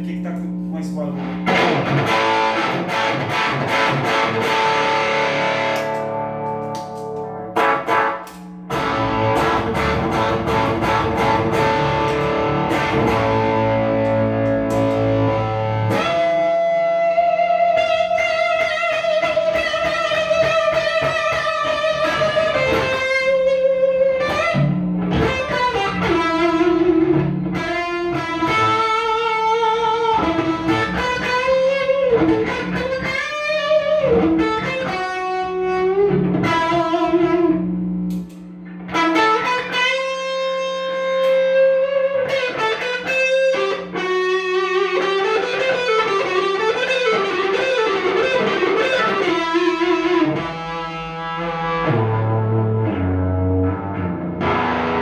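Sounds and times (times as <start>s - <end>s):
electric guitar lead melody: 0.0s - 55.0s.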